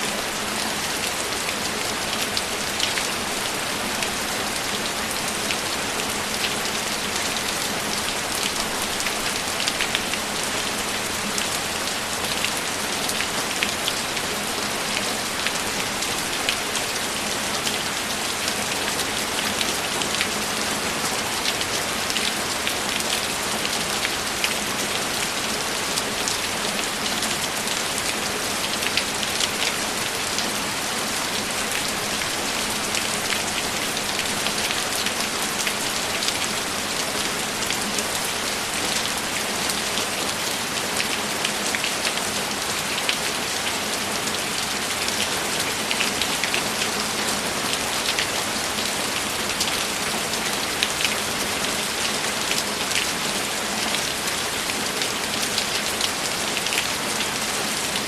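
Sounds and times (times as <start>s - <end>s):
heavy rain with drops ticking: 0.0s - 58.0s.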